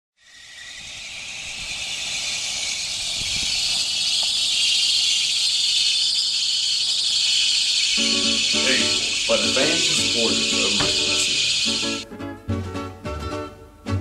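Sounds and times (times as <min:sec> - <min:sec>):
high-pitched hiss: 0:00.2 - 0:12.0.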